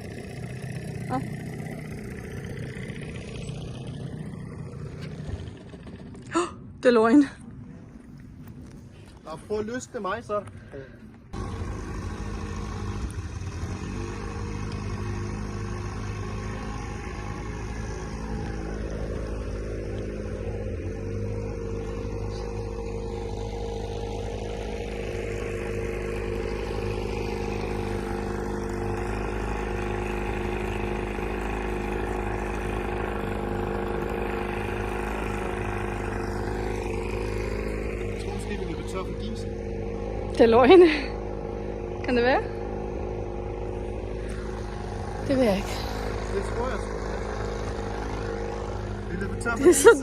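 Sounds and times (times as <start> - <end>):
boat diesel engine running: 0.0 - 50.0.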